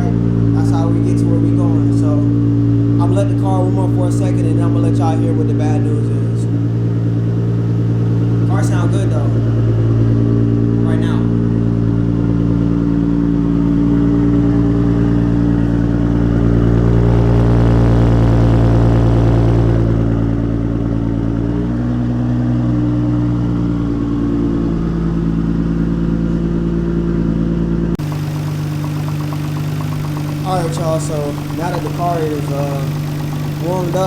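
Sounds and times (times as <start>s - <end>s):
car engine idling: 0.0s - 21.5s, 23.2s - 34.0s.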